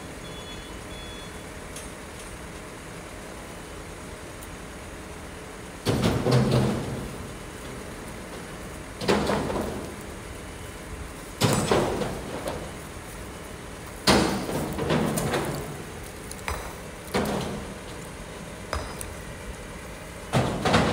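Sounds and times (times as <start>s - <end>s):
excavator engine running: 2.6s - 20.9s.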